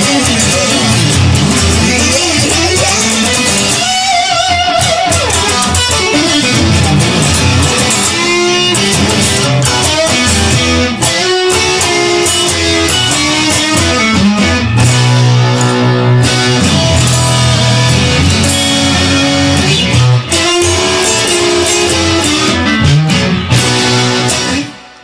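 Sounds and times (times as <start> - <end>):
bass: 0.0 - 25.0
drums: 0.0 - 25.0
electric guitar lead: 0.0 - 25.0.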